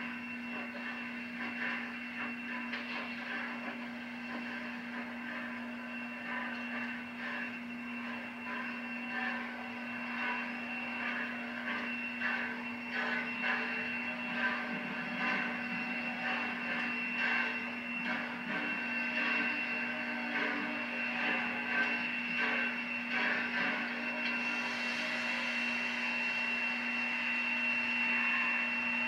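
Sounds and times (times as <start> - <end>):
steam locomotive hum and hiss: 0.0 - 29.0.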